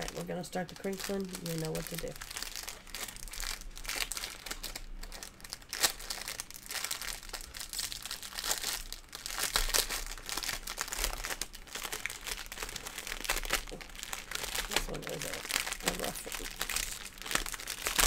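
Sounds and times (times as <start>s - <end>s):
beads shifting in bag: 0.0s - 18.0s
plastic bag crinkling: 0.0s - 18.0s.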